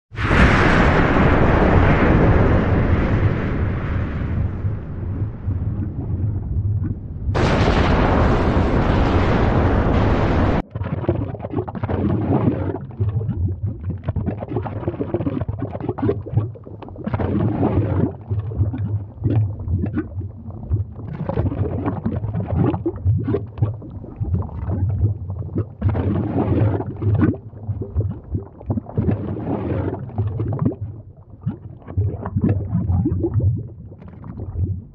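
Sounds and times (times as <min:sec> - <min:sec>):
lava rumbling and gurgling: 0:00.1 - 0:34.9.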